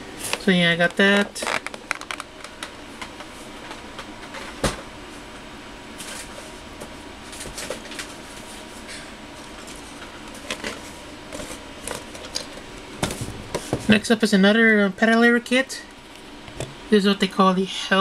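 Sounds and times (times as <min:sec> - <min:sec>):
steady room hiss: 0:00.0 - 0:18.0.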